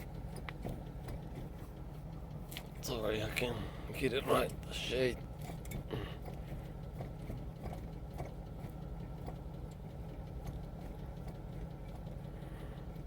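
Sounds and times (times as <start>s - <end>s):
car cabin rumble: 0.0s - 13.0s
light ticks: 0.0s - 13.0s.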